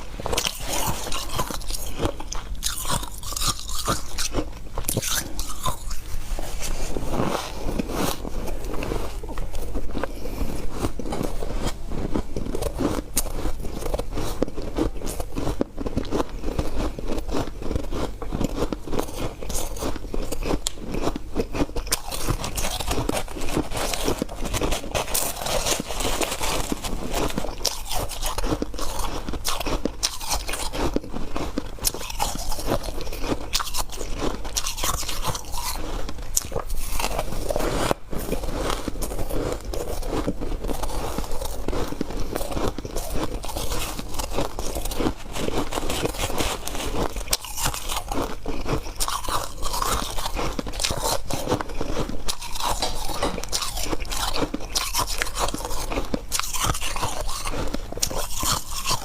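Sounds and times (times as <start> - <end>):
person chewing ice crunching: 0.0 - 59.0.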